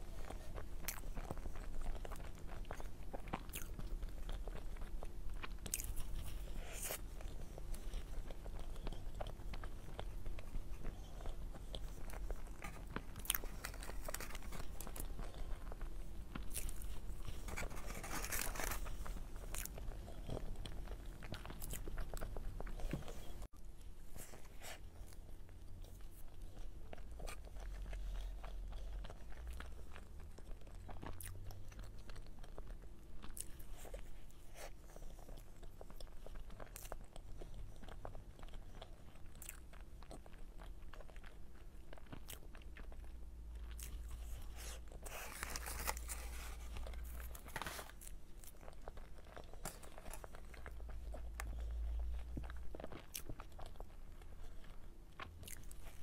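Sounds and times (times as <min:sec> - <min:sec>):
chewing with crunches: 0:00.0 - 0:56.0.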